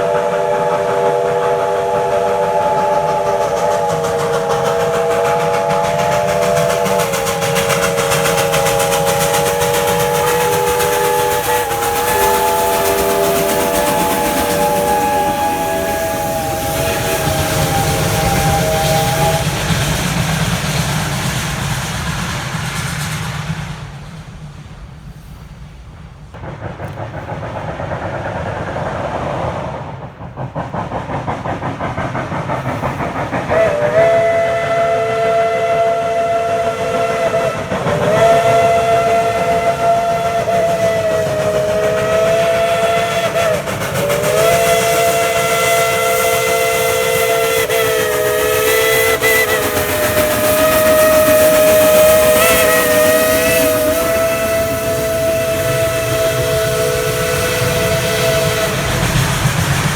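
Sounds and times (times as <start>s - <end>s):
steam locomotive chime whistle: 0.0s - 22.0s, 32.6s - 59.9s
steam hiss: 0.0s - 59.9s
train noise: 0.0s - 59.9s.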